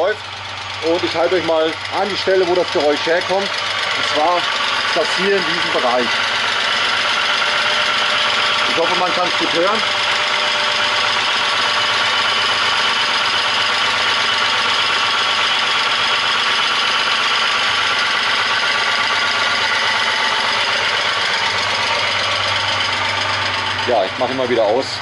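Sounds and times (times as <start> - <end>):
car engine idling: 0.0 - 25.0
engine ticking noise: 0.0 - 25.0.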